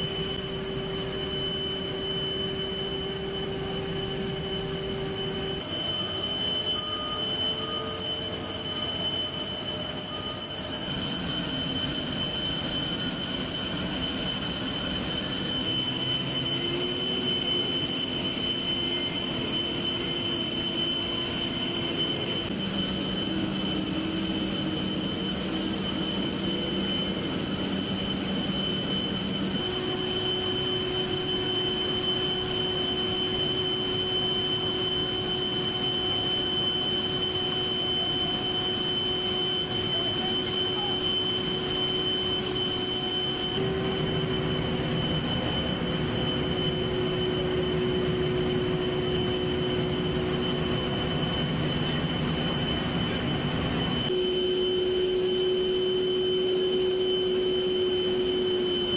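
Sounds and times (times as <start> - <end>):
jet turbine whine: 0.0 - 58.9.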